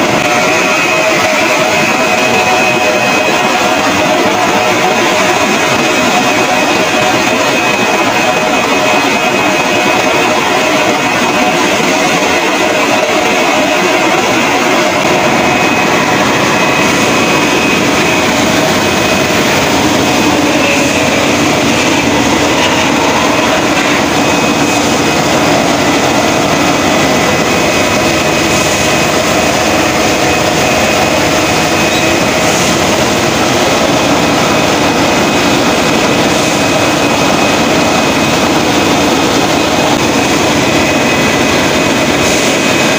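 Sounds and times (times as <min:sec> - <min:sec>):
bottling machinery noise: 0:00.0 - 0:42.9
thin steady machine whines: 0:00.0 - 0:42.9.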